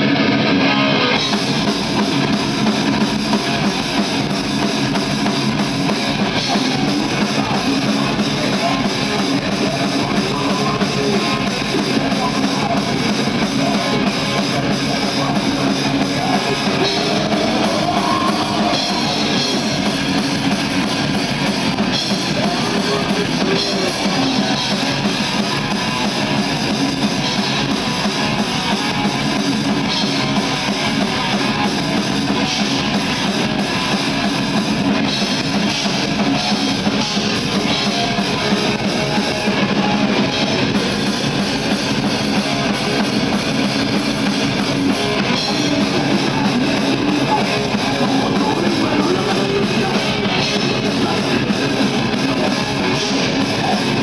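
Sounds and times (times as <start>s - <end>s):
bass guitar: 0.0s - 54.0s
distorted electric guitar: 0.0s - 54.0s
pounding drum kit: 0.0s - 54.0s.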